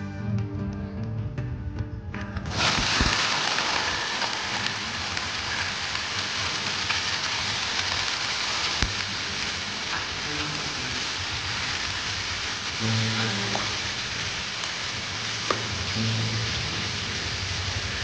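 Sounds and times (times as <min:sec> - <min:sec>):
chicken sizzling in hot oil: 0:02.5 - 0:18.0.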